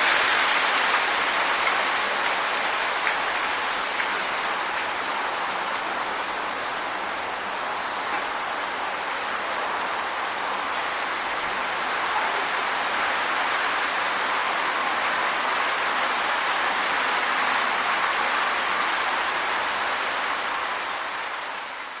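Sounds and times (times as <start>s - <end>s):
wind rustling tree leaves: 0.0s - 22.0s.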